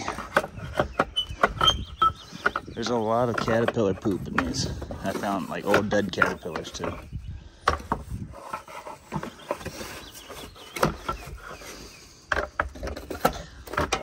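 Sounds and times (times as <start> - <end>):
scoop scraping along gutter: 0.0 - 14.0.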